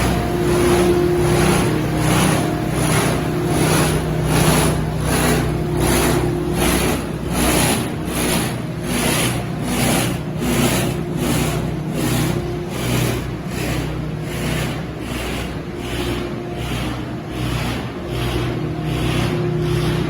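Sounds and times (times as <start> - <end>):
machinery mechanical hum: 0.0 - 20.0.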